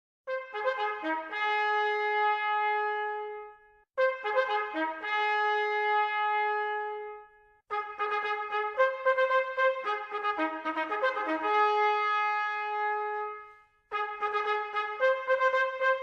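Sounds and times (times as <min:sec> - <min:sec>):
solo bugle call: 0:00.3 - 0:16.0.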